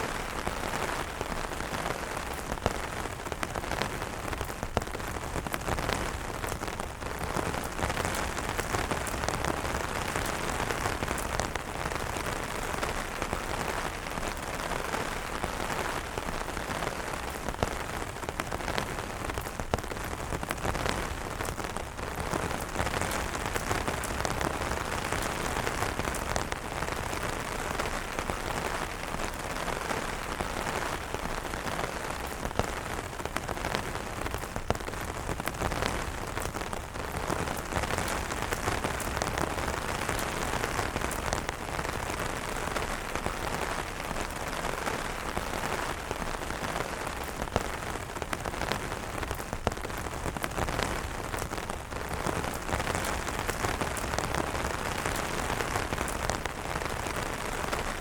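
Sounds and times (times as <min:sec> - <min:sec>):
rain pattering on umbrellas: 0:00.0 - 0:58.0.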